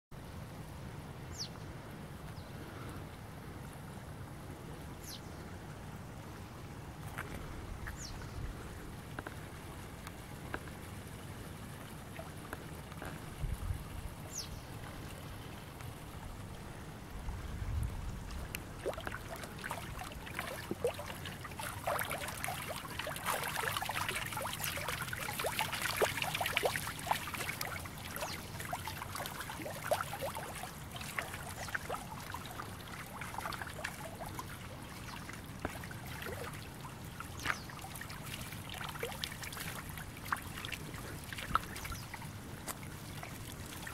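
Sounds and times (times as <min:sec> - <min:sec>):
water trickling among stones: 0:06.9 - 0:43.9.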